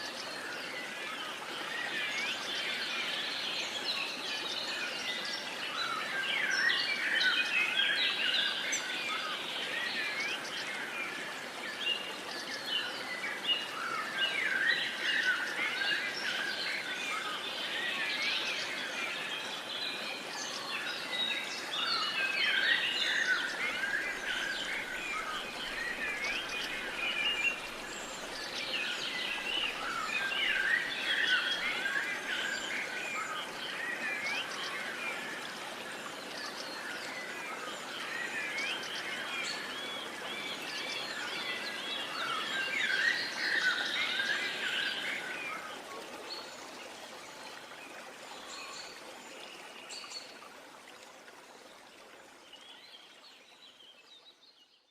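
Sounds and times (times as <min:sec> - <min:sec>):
songbirds singing and chirping: 0:00.0 - 0:50.4
faint steady hiss: 0:00.0 - 0:54.7.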